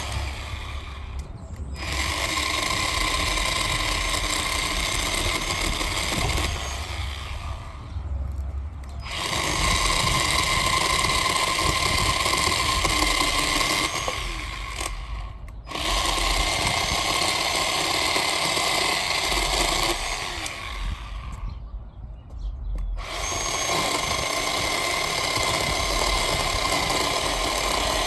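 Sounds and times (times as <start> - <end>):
electric chainsaw cutting log: 0.0 - 8.0, 8.9 - 21.6, 23.0 - 28.0.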